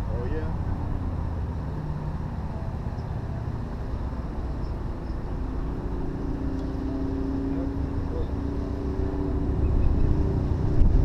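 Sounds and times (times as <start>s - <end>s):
boat motor rumbling: 0.0s - 11.0s.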